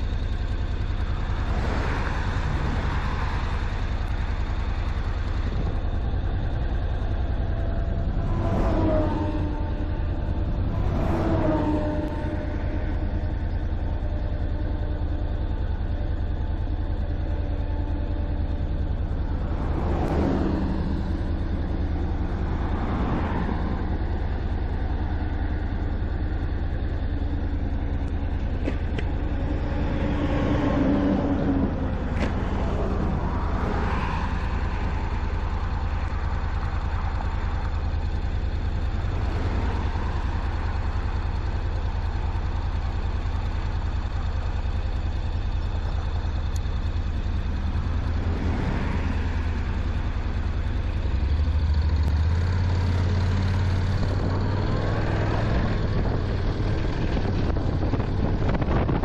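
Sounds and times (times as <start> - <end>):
motorcycle engine hum: 0.0 - 59.0
vehicles passing: 0.0 - 59.0
wind rumble: 0.9 - 44.6, 52.4 - 59.0.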